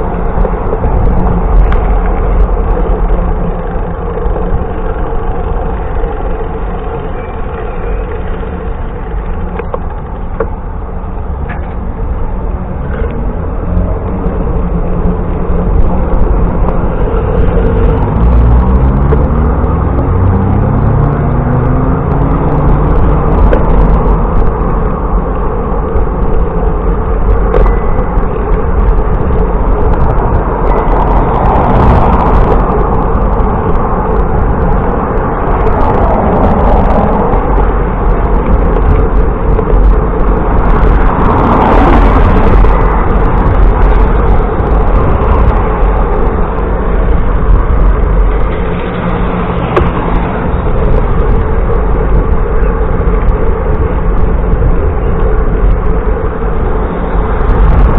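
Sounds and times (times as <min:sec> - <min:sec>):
bicycle road noise: 0:00.0 - 0:57.9
cars passing: 0:00.0 - 0:57.9.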